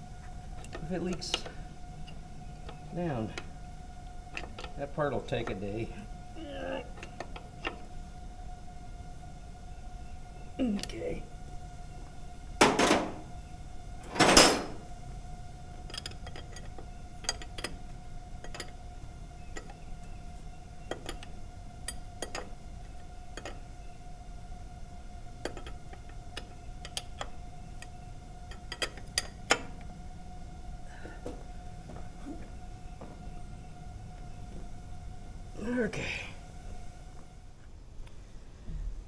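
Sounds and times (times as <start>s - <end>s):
faint hum: 0.0s - 39.0s.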